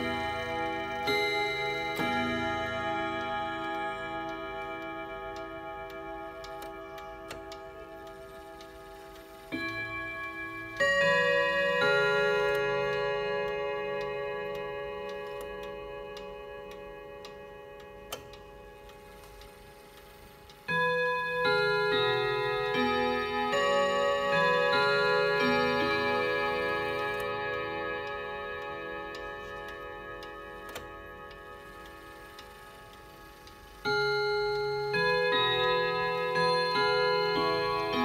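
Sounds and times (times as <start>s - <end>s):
clock chime melody on gongs: 0.0s - 38.0s
clock ticking: 0.0s - 38.0s.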